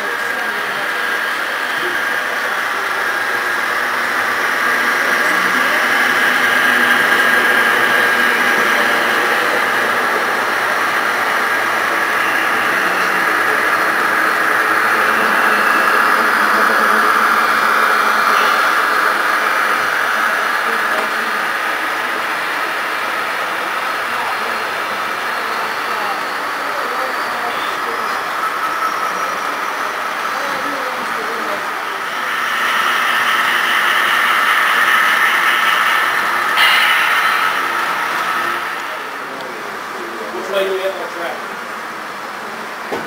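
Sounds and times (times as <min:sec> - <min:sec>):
faint voices: 0:00.0 - 0:43.0
model trains whirring on track: 0:00.0 - 0:43.0.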